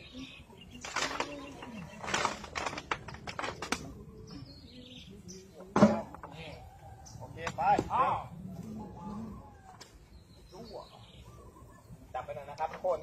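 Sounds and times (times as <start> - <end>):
voices calling: 0.0 - 13.0.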